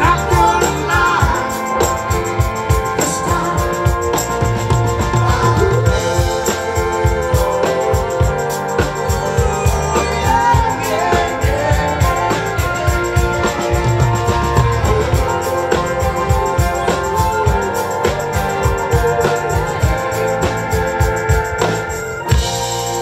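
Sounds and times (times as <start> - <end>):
person singing: 0.0 - 20.5
acoustic and electric guitars: 0.0 - 23.0
congas: 0.0 - 23.0
drum kit: 0.0 - 23.0.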